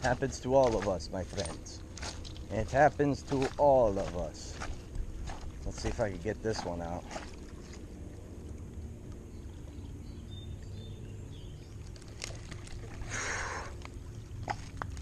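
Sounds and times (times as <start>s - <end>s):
distant motor humming: 0.0s - 15.0s
open-air noise: 0.0s - 15.0s.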